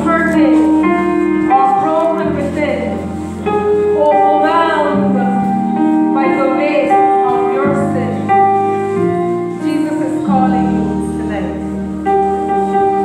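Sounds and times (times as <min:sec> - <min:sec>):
keyboard chords: 0:00.0 - 0:13.0.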